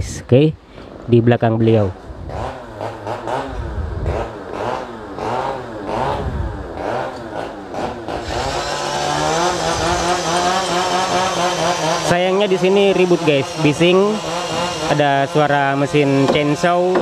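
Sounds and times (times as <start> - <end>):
chainsaw engine revving: 2.0 - 17.0.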